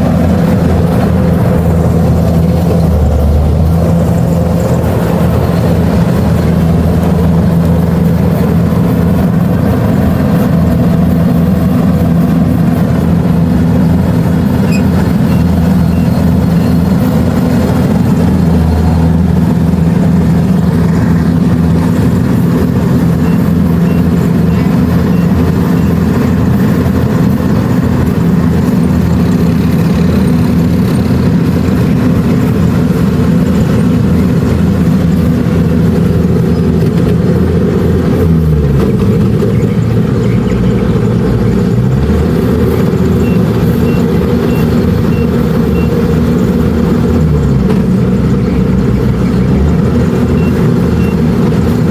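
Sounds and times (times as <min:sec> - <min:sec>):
combine harvester engine droning: 0:00.0 - 0:51.9.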